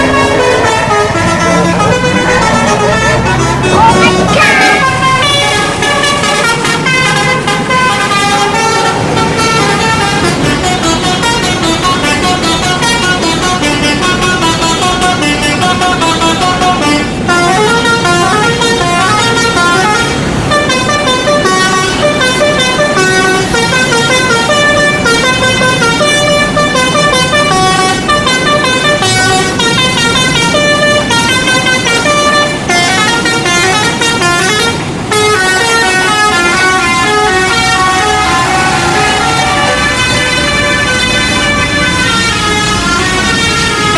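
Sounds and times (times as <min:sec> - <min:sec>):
musical horn playing a tune: 0:00.0 - 0:43.9.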